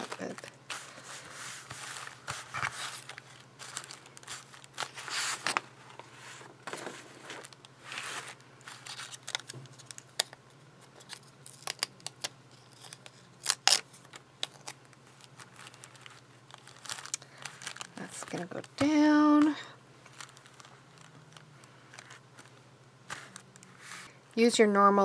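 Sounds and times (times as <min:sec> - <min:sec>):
paper rustling and crinkling: 0:00.0 - 0:24.1.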